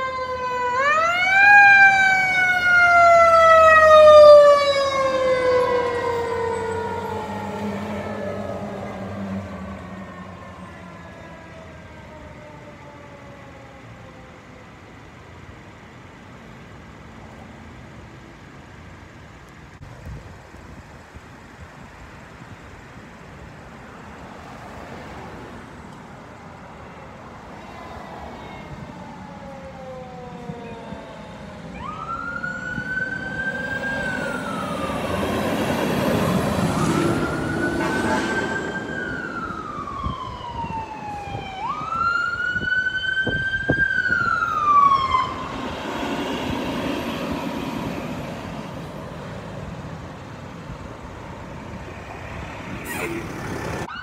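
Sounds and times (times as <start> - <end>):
fire truck siren wailing: 0.0 - 15.8, 26.4 - 54.0
passing vehicle engines and road noise: 0.0 - 54.0.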